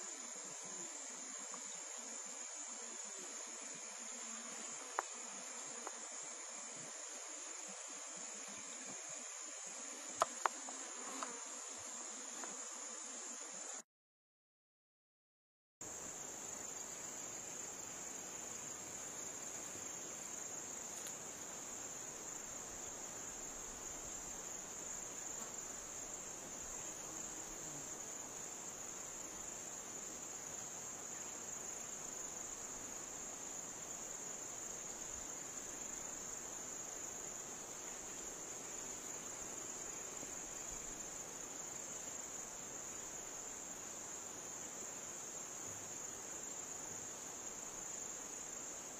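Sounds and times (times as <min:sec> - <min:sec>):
faint background hiss: 0:00.0 - 0:13.8, 0:15.8 - 0:48.9.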